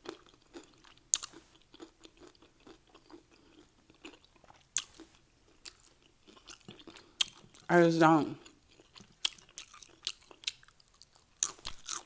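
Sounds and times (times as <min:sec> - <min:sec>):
person chewing chips: 0:00.0 - 0:12.0.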